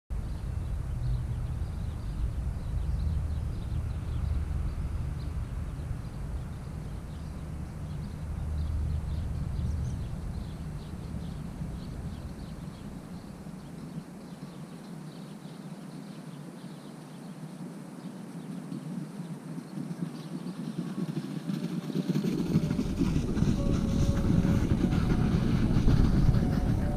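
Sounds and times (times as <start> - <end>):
wind rumble on microphone: 0.1 - 14.5, 18.4 - 26.9.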